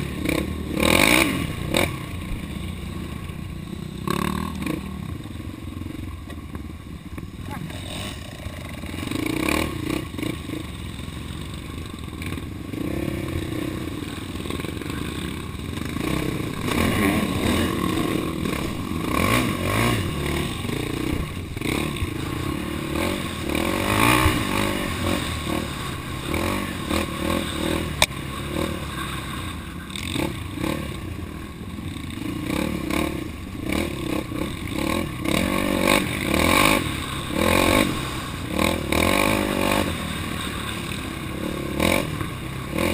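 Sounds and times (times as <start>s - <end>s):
off-road vehicle engine revving: 0.0s - 6.0s, 7.1s - 42.9s.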